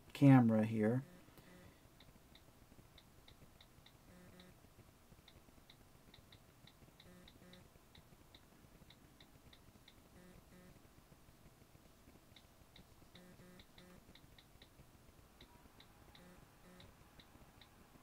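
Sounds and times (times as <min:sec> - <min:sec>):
faint on-screen keyboard clicks: 0:01.4 - 0:18.0.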